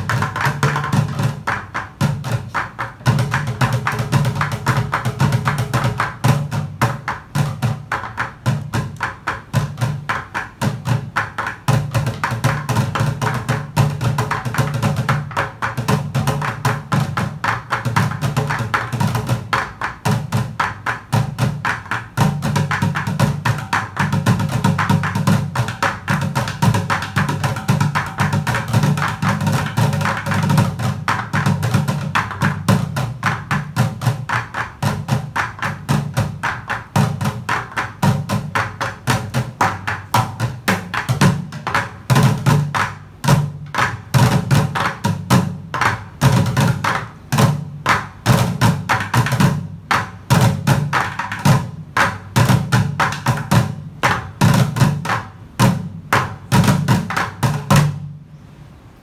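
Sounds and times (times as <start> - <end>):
drumsticks beating plastic buckets: 0.0 - 58.1.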